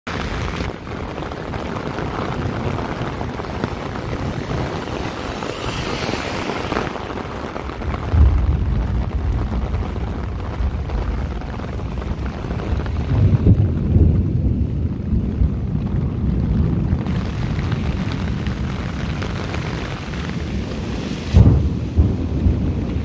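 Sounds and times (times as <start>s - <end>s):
outdoor noise: 0.0s - 23.0s
wind rumbling on microphone: 0.1s - 23.0s.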